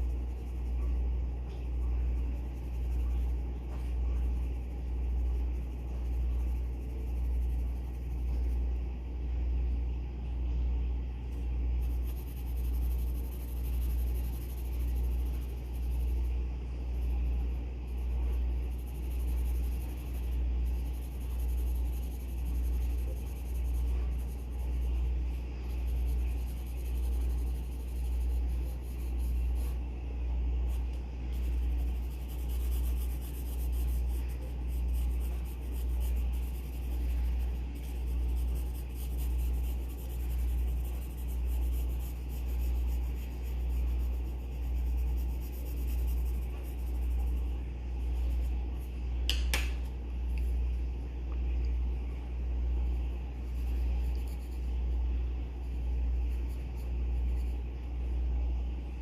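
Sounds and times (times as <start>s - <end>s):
pencil scratching on paper: 0.0s - 9.0s, 11.3s - 29.9s, 30.5s - 49.0s, 52.8s - 57.8s.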